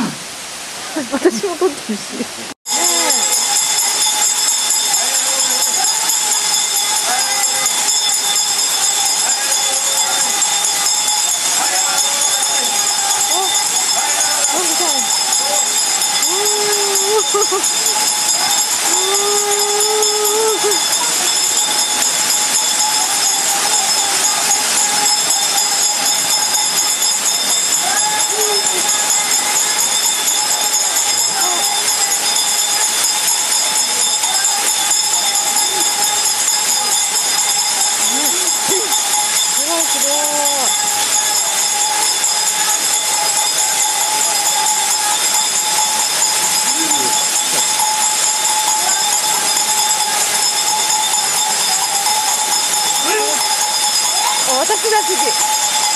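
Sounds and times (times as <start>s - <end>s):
faint voices: 0.0s - 55.9s
waterfall rushing: 0.0s - 55.9s
faint high ringing: 2.7s - 55.9s.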